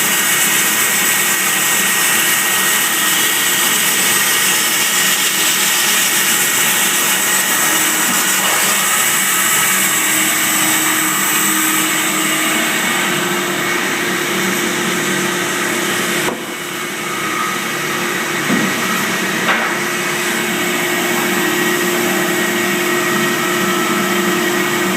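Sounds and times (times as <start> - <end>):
band sawmill cutting timber: 0.0 - 24.9.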